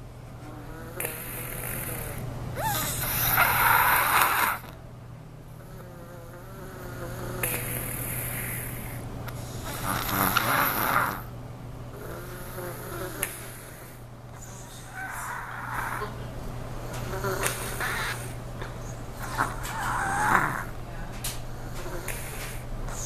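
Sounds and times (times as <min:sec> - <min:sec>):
child snoring: 0:00.5 - 0:04.8, 0:05.6 - 0:11.3, 0:11.9 - 0:16.2, 0:17.0 - 0:18.4, 0:19.2 - 0:20.7, 0:21.5 - 0:23.0.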